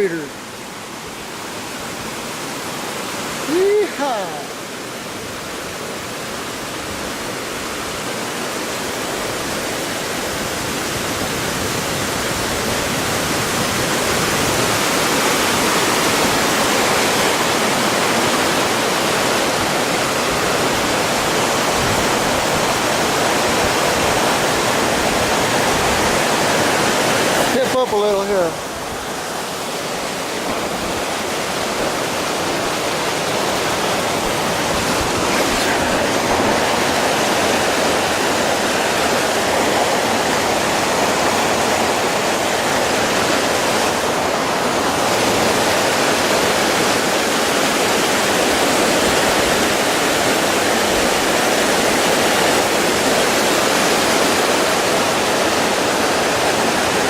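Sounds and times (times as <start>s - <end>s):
creek water rushing over rocks: 0.0s - 57.0s.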